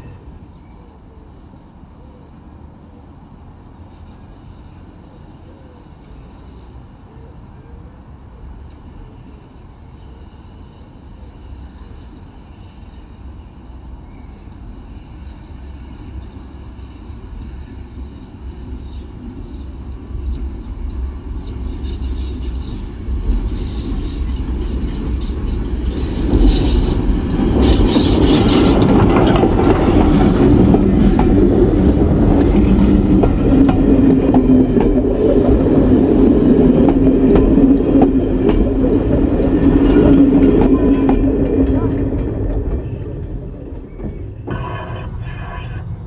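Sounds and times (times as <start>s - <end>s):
steam locomotive passing: 0.0s - 46.0s.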